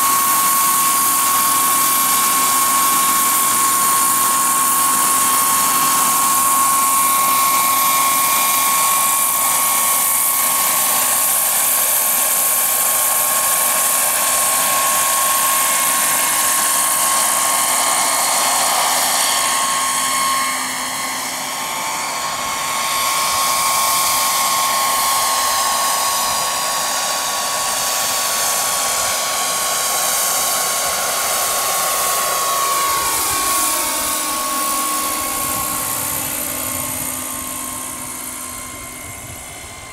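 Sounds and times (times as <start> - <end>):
helicopter rotor noise: 0.0 - 39.9
model helicopter turbine whining: 0.0 - 39.9.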